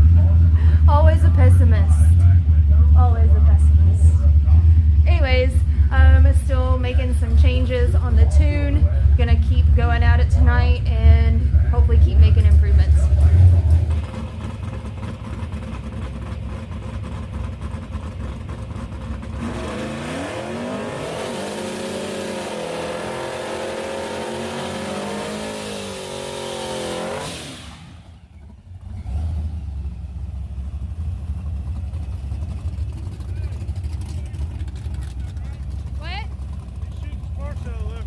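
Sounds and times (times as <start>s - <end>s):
truck engine rumbling and accelerating: 0.0s - 38.0s.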